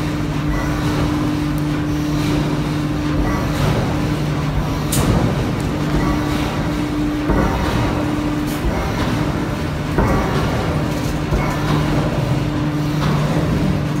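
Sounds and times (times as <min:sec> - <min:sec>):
heavy machinery deep hum: 0:00.0 - 0:14.0.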